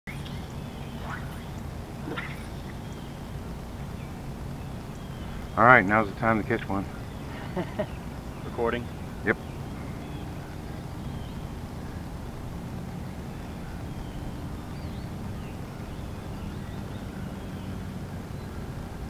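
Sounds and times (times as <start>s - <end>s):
faint bird chirps: 0.1s - 12.2s, 13.2s - 18.6s
motorboat engine drone: 0.1s - 19.0s.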